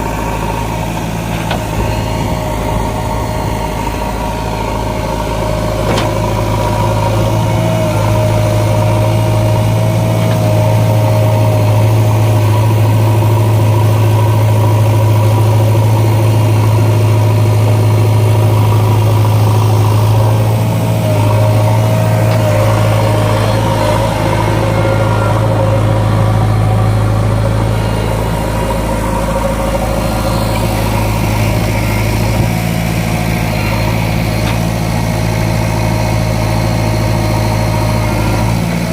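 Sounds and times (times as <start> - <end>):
diesel engine running: 0.0 - 38.9
high-pitched whine: 0.0 - 38.9.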